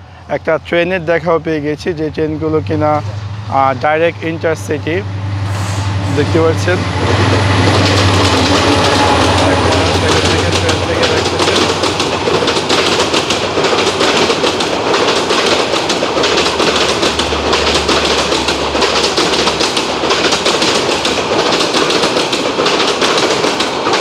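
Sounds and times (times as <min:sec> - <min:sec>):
train wheels clattering over rails: 0:02.8 - 0:24.0.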